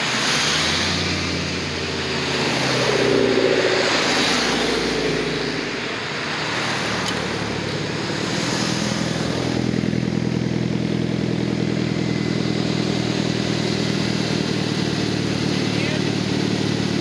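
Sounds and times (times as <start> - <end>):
car passing with tyre noise: 0.0 - 14.5
car engine at low revs: 0.0 - 17.0.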